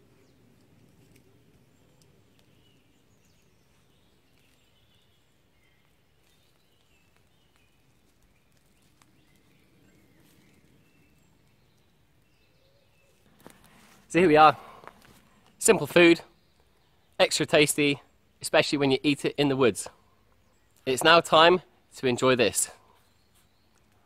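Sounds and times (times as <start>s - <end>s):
distant bird chirps: 0.0s - 24.0s.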